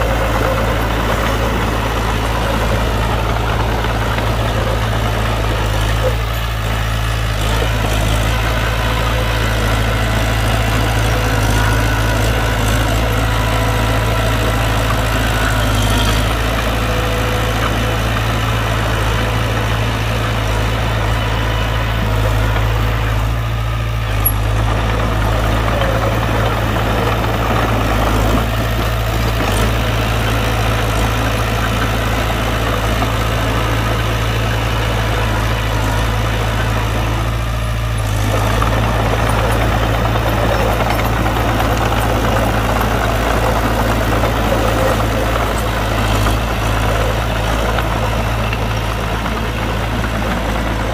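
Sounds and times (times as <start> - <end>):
diesel engine running steadily: 0.0 - 50.9.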